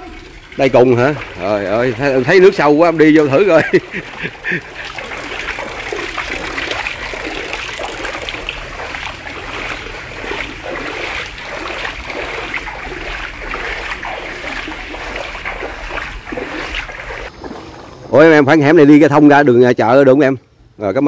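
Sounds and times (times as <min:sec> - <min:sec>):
wading through water splashing: 0:00.0 - 0:18.7.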